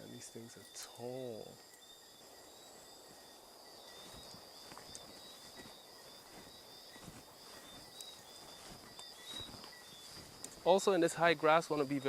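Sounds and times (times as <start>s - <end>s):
night insects chirring: 0.0s - 12.0s
footsteps through grass and rocks: 2.1s - 12.0s.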